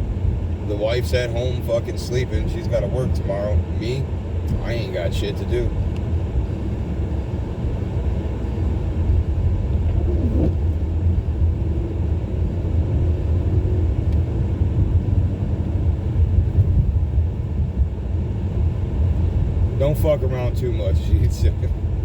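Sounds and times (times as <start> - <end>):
car driving slowly: 0.0 - 22.0
road and engine noise: 0.0 - 22.0.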